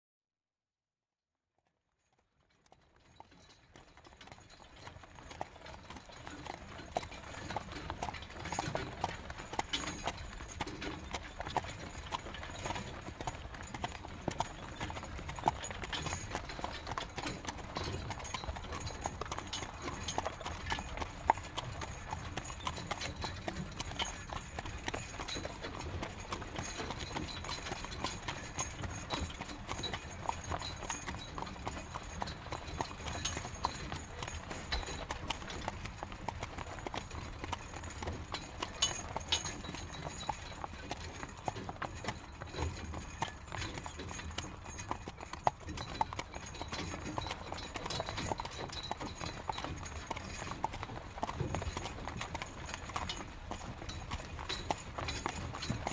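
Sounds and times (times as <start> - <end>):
horse hooves clip-clopping: 2.4 - 55.9
carriage running noise: 3.0 - 55.9.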